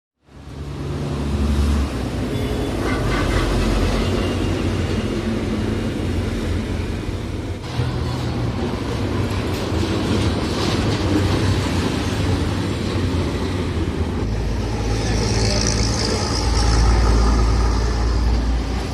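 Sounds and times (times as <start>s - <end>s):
road noise: 0.2s - 18.9s.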